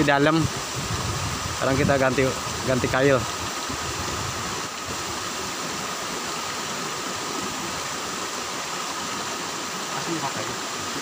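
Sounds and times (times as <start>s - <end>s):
stream water flowing over rocks: 0.0s - 11.0s.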